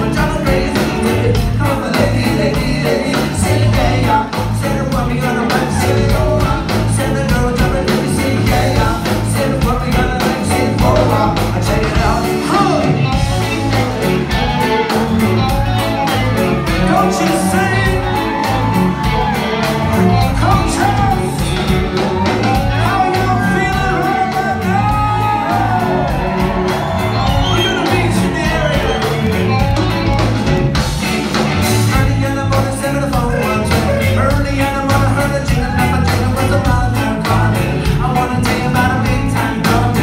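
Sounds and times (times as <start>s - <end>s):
lead singer singing: 0.0s - 30.3s, 31.4s - 40.0s
drums steady beat: 0.0s - 40.0s
live band playing: 0.0s - 40.0s.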